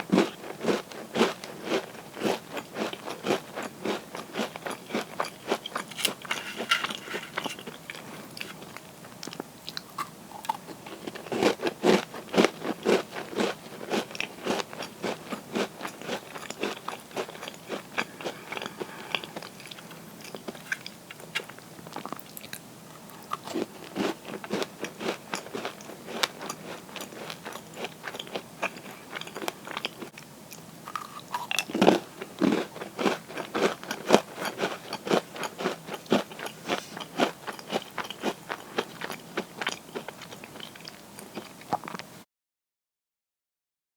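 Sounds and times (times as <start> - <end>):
cookies crunching while chewed: 0.0 - 42.1.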